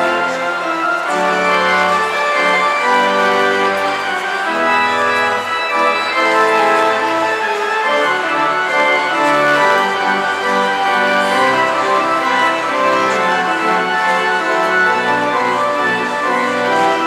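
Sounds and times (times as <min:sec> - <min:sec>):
pipe organ playing: 0:00.0 - 0:17.0.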